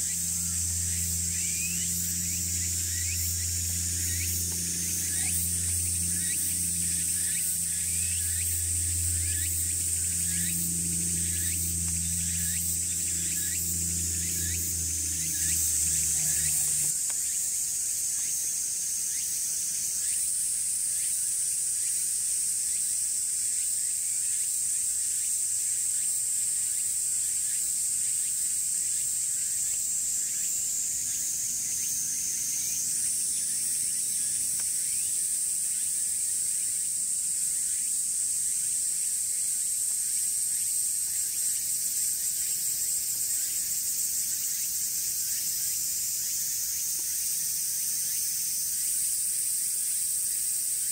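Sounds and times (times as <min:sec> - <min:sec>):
cicadas droning: 0:00.0 - 0:50.9.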